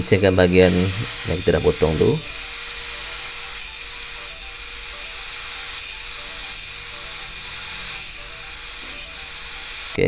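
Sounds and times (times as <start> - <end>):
angle grinder grinding steel: 0.0 - 10.0.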